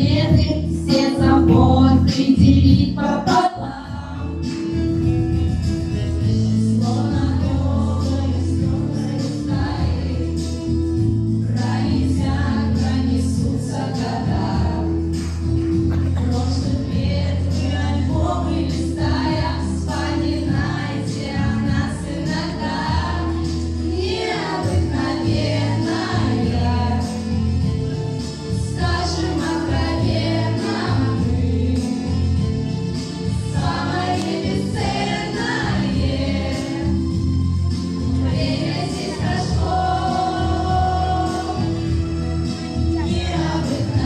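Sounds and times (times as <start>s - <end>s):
group singing into microphones: 0.0s - 5.1s, 6.0s - 44.0s
amplified accompaniment music: 0.0s - 44.0s.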